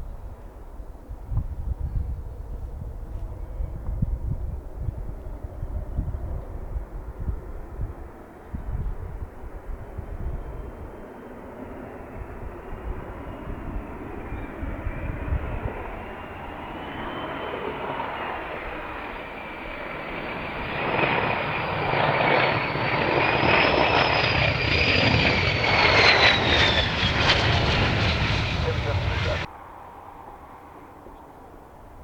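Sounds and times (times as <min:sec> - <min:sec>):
jet engines with turbine whine: 0:03.1 - 0:31.8.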